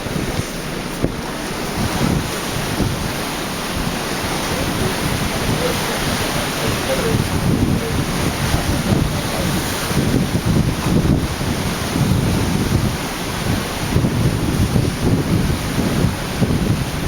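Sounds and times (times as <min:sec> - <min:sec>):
sea water rushing: 0:00.0 - 0:17.0
wind buffeting microphone: 0:00.0 - 0:17.0.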